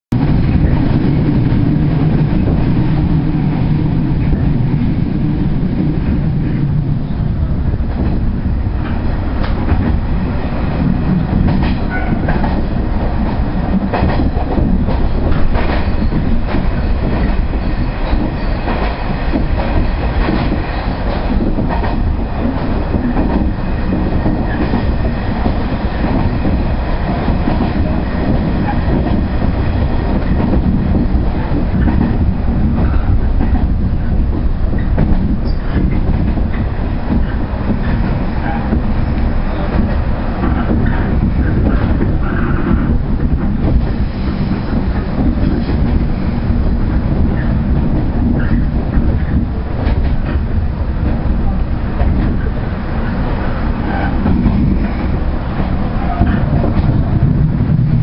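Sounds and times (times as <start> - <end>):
train motors rumbling: 0.1 - 58.0.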